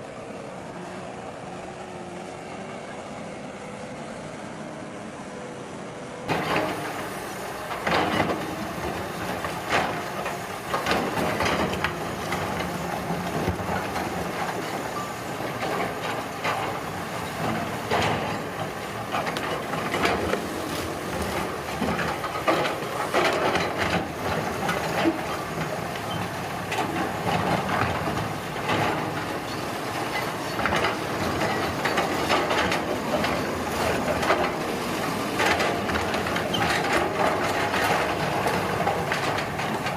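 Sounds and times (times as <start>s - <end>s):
construction machinery running: 0.0s - 39.9s
metal clanks and knocks: 6.3s - 39.9s.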